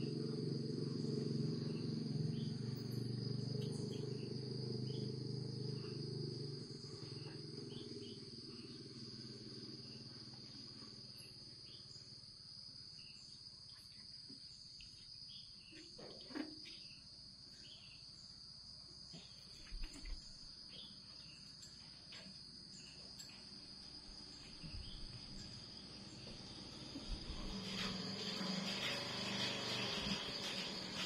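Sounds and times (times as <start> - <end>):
faint insect chirring: 0.0 - 31.0.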